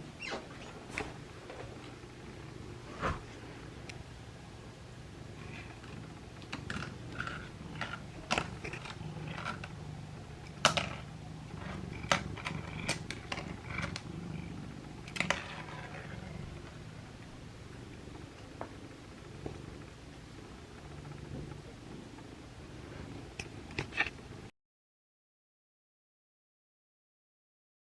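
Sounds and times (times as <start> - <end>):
cat purring: 0.0 - 24.5.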